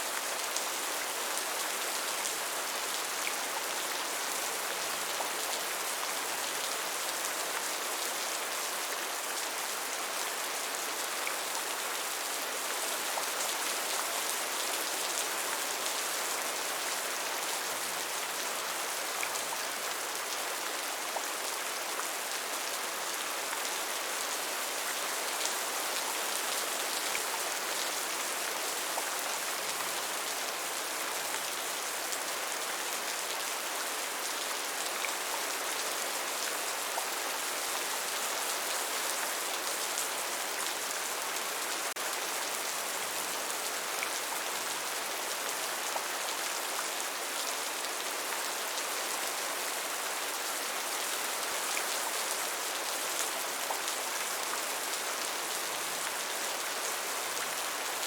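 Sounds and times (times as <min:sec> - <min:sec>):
steady rainfall hiss: 0:00.0 - 0:58.0.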